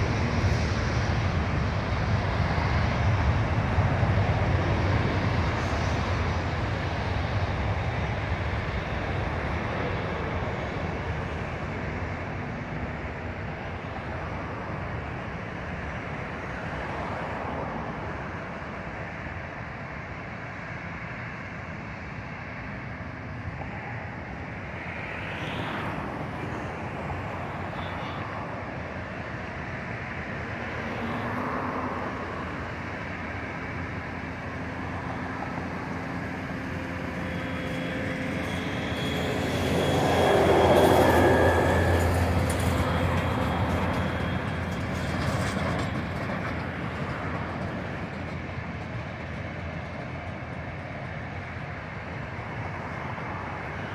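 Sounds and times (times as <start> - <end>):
jet engines at takeoff thrust: 0.0 - 53.9
taxiing jet engine whine: 0.0 - 53.9.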